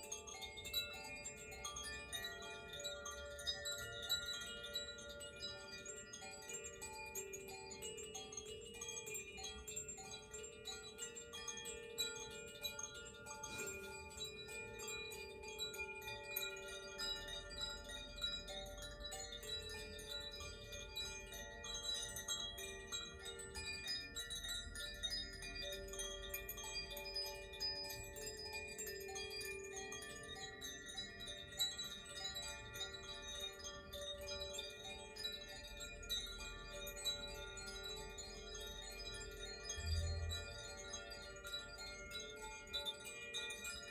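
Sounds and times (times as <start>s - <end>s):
hanging tuned chimes ringing: 0.0s - 43.9s.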